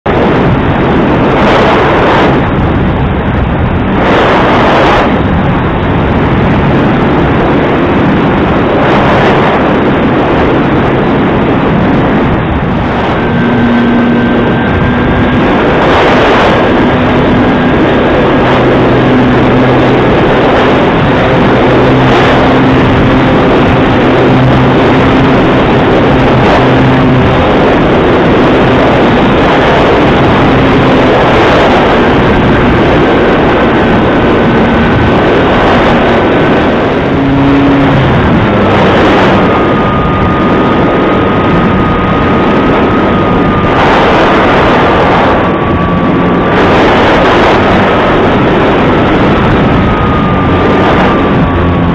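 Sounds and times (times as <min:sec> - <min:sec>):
propeller running: 0:00.0 - 0:51.9
rushing airflow: 0:00.0 - 0:51.9
electric motor whine: 0:09.8 - 0:51.9.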